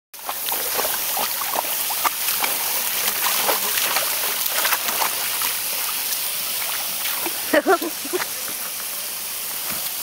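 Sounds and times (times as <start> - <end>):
water splashing: 0.2 - 9.0.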